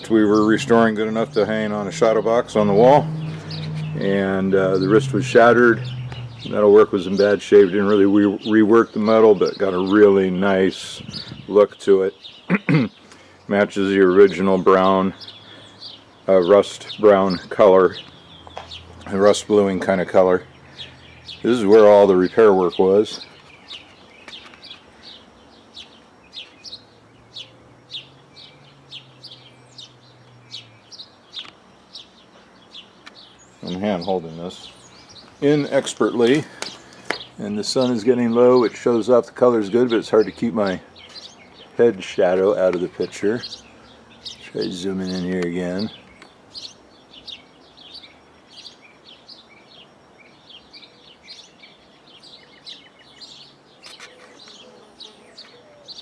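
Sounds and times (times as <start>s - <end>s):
bird trill: 0.0s - 56.0s
faint steady background noise: 0.0s - 56.0s
small songbirds chirping: 0.0s - 56.0s.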